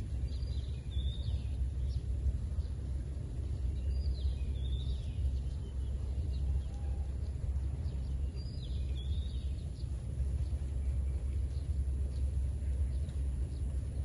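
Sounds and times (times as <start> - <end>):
bird chirps: 0.0 - 14.0
low outdoor rumble: 0.0 - 14.0.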